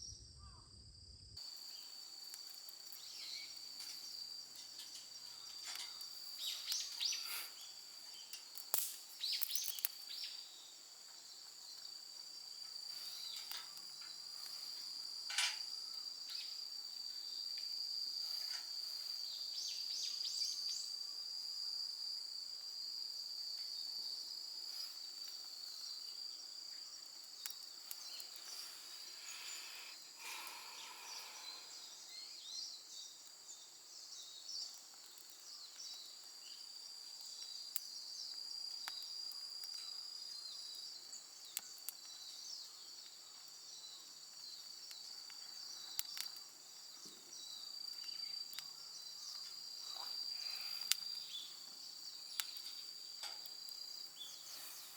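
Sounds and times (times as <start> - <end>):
crickets and insects trilling: 0.0 - 54.9.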